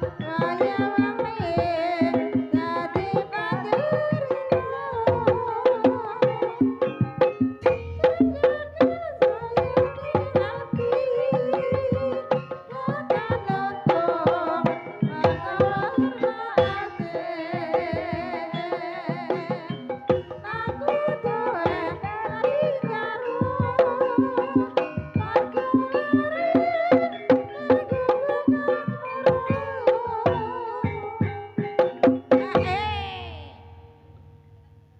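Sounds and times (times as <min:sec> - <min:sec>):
hand drum strokes: 0:00.0 - 0:34.3
wavering pitched gamelan melody: 0:00.0 - 0:34.8.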